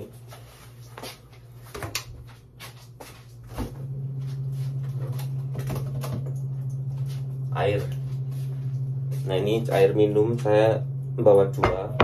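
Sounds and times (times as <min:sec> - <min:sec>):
fridge humming: 0:00.0 - 0:12.0.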